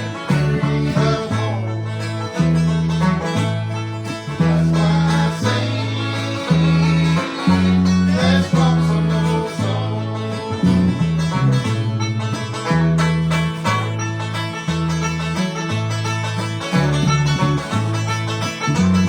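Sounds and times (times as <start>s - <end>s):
banjo picking: 0.0s - 19.0s
guitar backing: 0.0s - 19.0s.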